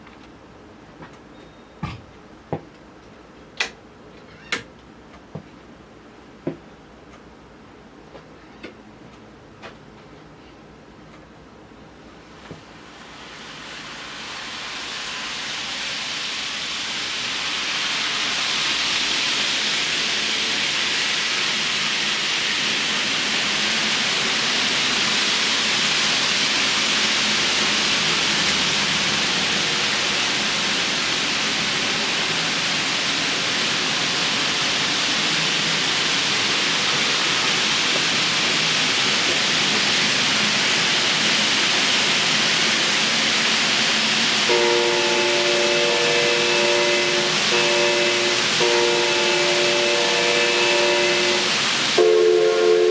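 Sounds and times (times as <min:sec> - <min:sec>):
steady hissing noise: 0:01.9 - 0:52.9.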